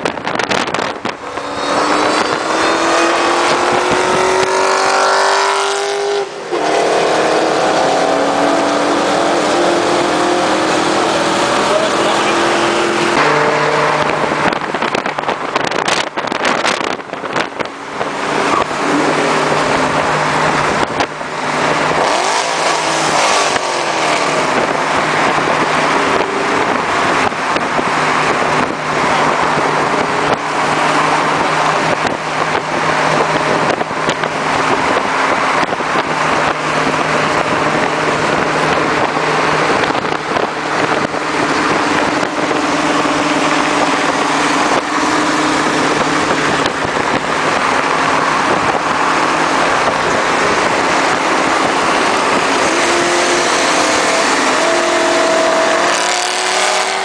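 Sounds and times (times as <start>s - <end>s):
car engine drone: 0.0s - 57.0s
road noise: 0.0s - 57.0s
rushing wind: 0.0s - 57.0s.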